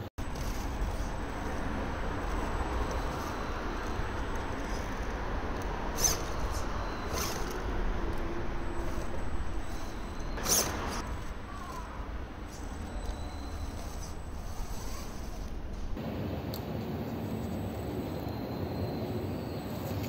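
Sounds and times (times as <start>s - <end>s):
steady noisy background: 0.0s - 20.0s.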